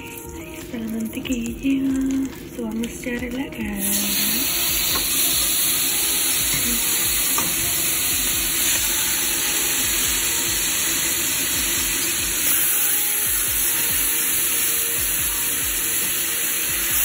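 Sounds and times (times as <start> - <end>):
chicken sizzling in butter: 0.0 - 17.0.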